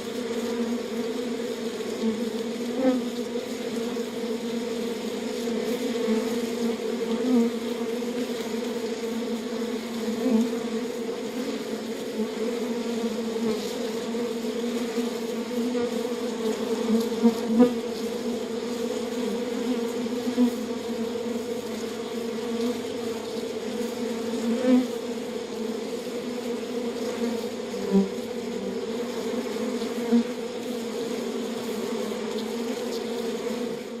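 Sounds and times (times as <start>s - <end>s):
bee buzzing close: 0.0s - 34.0s
beehive humming: 0.0s - 34.0s.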